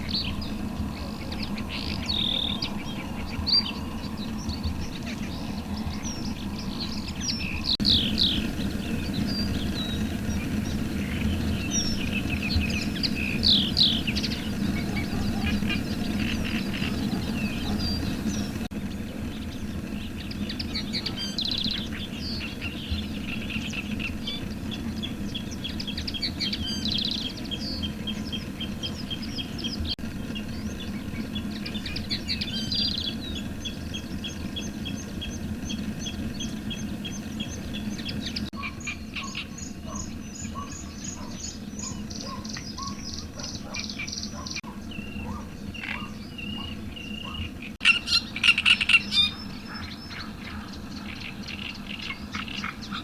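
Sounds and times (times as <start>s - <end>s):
steady low background noise: 0.0s - 43.3s
birds singing and chirping: 0.0s - 53.0s.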